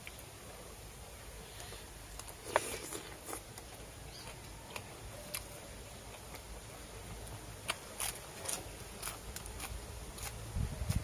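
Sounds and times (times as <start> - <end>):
person chewing and eating: 1.5 - 11.0.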